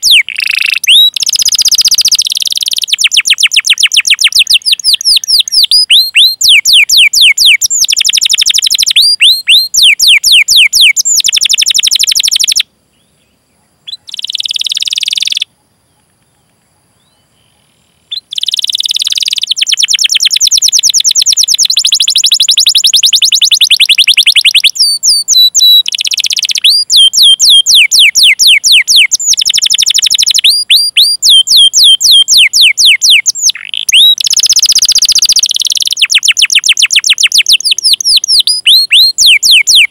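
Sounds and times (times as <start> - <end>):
canary singing: 0.0 - 12.7, 13.9 - 15.5, 18.1 - 39.9.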